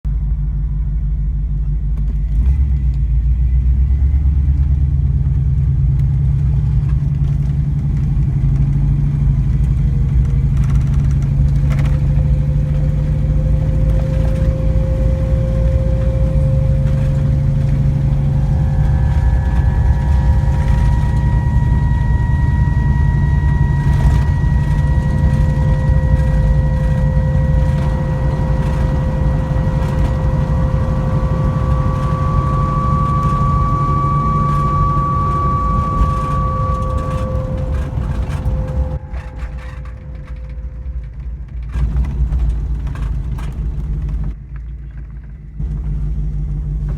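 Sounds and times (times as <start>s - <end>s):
drivetrain whine: 0.0s - 46.9s
vehicle engine low rumble: 0.0s - 46.9s.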